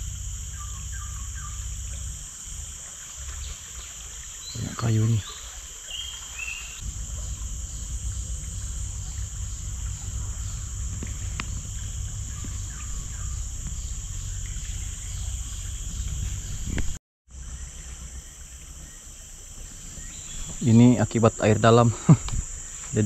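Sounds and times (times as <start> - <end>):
high-pitched insect drone: 0.0 - 23.0
pulsing insect chirp: 0.0 - 23.0
wind: 0.0 - 23.0.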